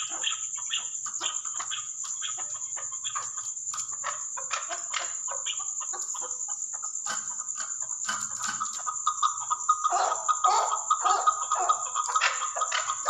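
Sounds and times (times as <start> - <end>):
partridge clucking calls: 0.0 - 13.0.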